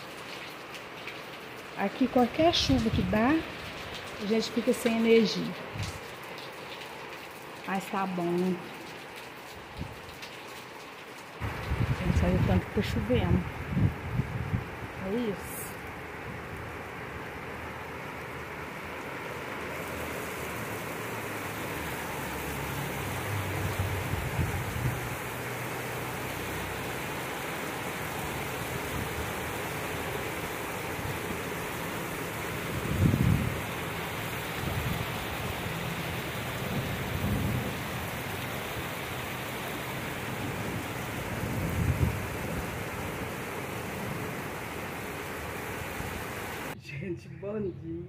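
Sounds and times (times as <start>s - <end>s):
heavy rain pouring: 0.0s - 46.8s.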